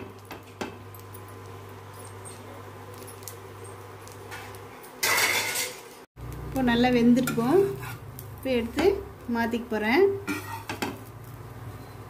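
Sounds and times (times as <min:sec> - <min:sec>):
faint crackling of frying food: 0:00.0 - 0:12.0.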